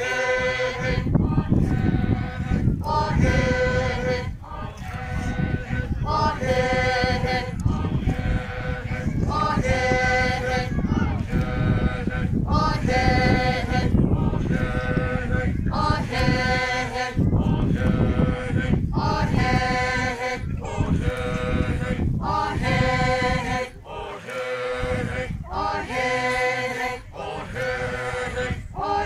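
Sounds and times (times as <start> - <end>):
men and women chanting: 0.0 - 29.0.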